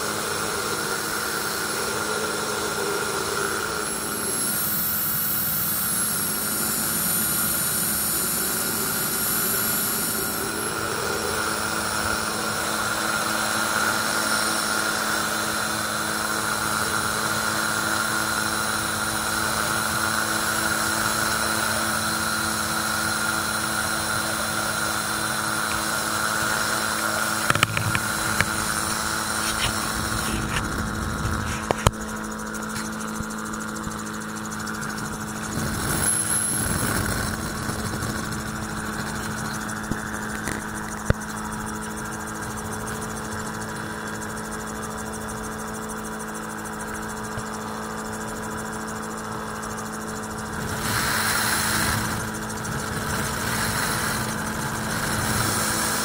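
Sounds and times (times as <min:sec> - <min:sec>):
aircraft engine and propeller drone: 0:00.0 - 0:56.0.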